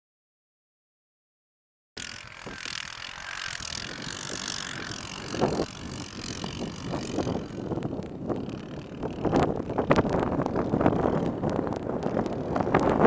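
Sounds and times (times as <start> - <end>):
atv riding over rough ground: 2.0 - 13.0
wind noise on microphone: 2.0 - 13.0.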